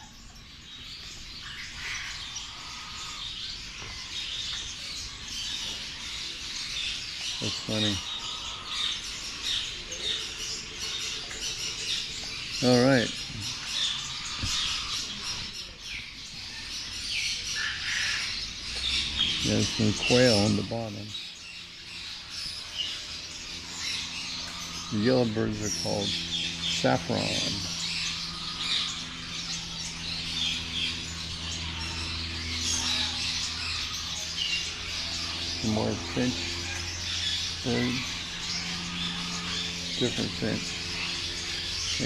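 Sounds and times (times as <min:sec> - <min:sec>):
small birds chirping: 0:00.0 - 0:42.0
steady low hum: 0:00.0 - 0:42.0.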